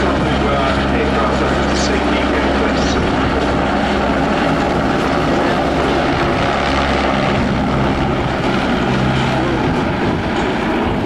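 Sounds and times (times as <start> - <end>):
helicopter rotor and turbine noise: 0.0 - 11.0.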